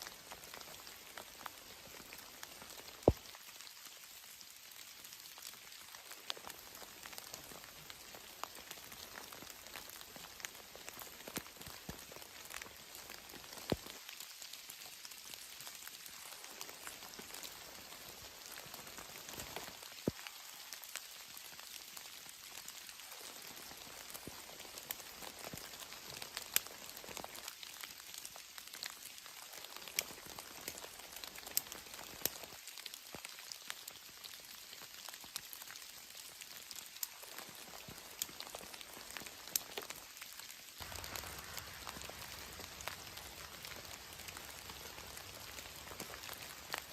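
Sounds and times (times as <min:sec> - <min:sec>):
raindrops ticking on surface: 0:00.0 - 0:46.9
steady rain hiss: 0:00.0 - 0:46.9.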